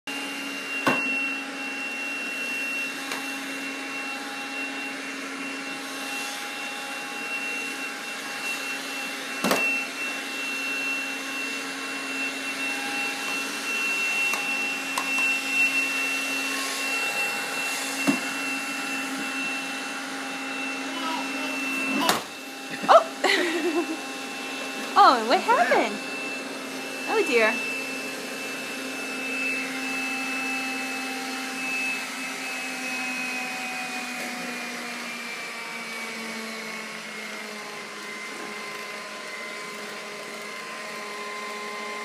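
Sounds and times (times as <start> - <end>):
toy vacuum cleaner whirring: 0.2 - 42.0.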